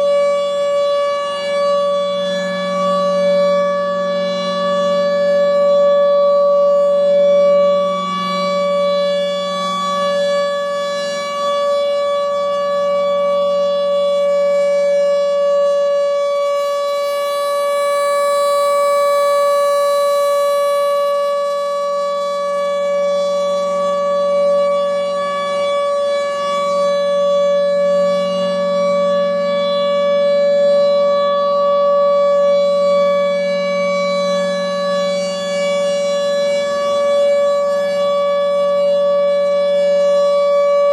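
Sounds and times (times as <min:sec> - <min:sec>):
outdoor warning siren: 0:00.0 - 0:40.9.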